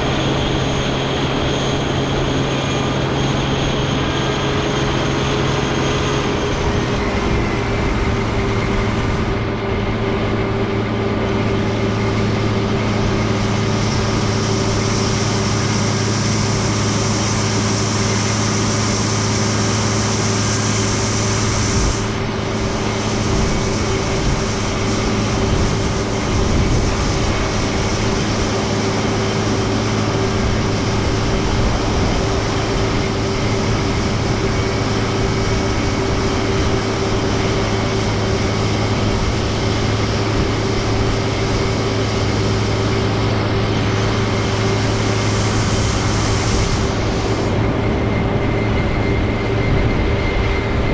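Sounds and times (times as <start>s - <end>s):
combine engine drone: 0.0s - 50.9s
high whine: 0.0s - 50.9s.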